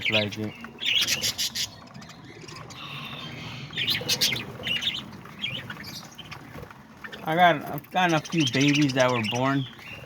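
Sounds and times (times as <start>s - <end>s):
parrots chirping and squawking: 0.0s - 10.0s.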